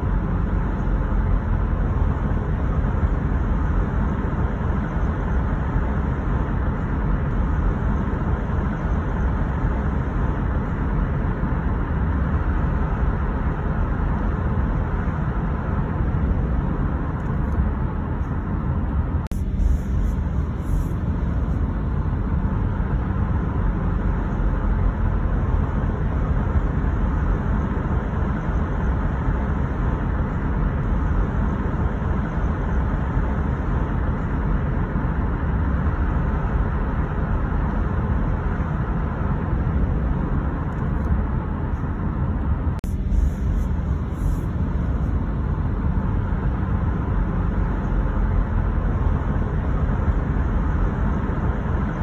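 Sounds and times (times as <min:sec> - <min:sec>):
car road noise: 0:00.0 - 0:52.0.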